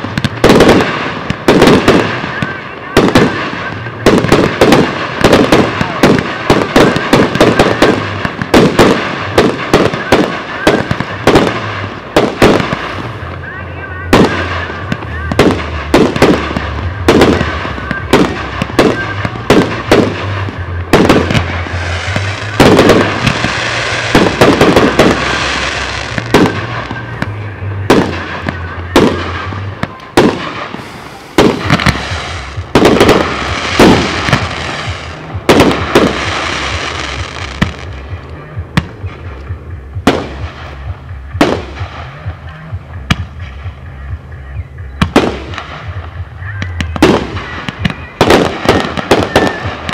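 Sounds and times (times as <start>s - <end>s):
fireworks bangs: 0.0s - 44.1s, 45.0s - 49.9s
fireworks crackling: 0.0s - 49.9s.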